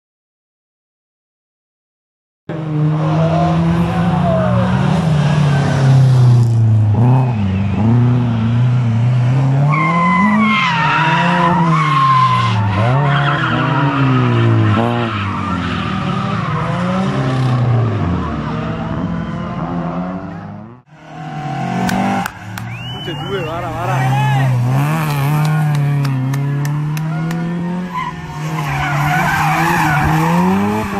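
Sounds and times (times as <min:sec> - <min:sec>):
rally car engine revving: 0:02.5 - 0:30.9.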